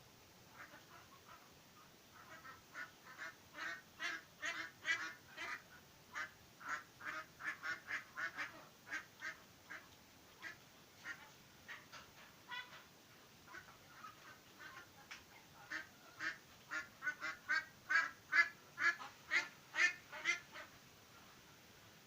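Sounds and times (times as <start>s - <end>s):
hen clucking: 2.1s - 20.8s.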